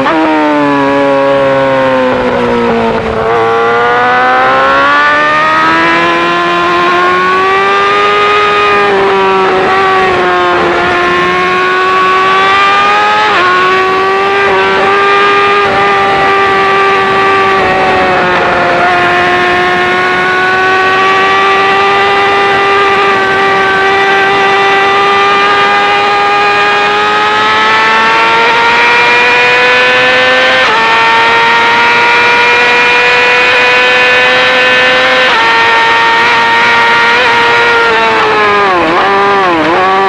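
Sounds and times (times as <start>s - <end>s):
motorcycle engine revving high: 0.0s - 40.0s.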